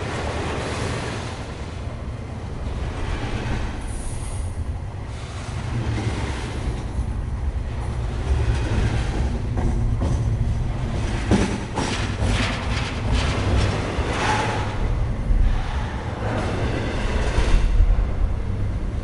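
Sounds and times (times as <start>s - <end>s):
train clanking: 0.0s - 19.0s
train rumbling past: 0.0s - 19.0s.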